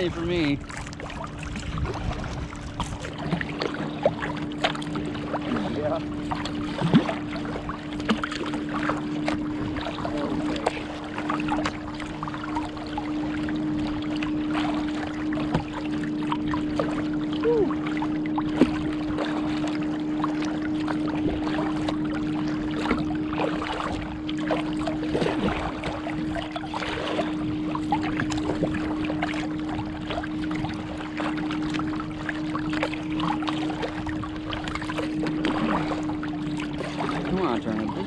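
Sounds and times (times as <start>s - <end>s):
paddles dipping in water: 0.0s - 38.0s
steady low hum: 0.0s - 38.0s
water splashing and lapping on hull: 0.0s - 38.0s.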